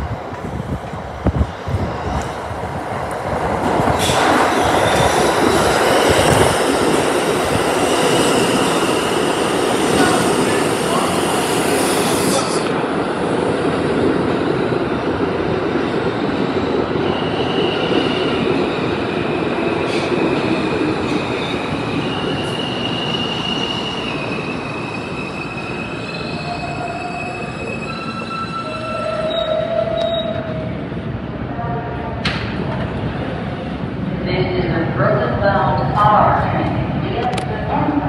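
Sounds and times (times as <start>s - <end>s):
train wheels rumbling on rail: 0.0s - 34.2s.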